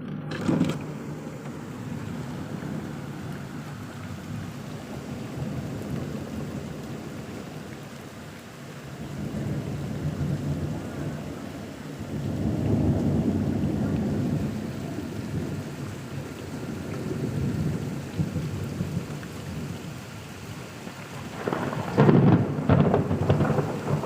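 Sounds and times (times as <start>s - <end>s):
rolling thunder: 0.0s - 7.7s, 8.9s - 20.0s, 20.9s - 24.0s
steady rain: 0.0s - 24.0s.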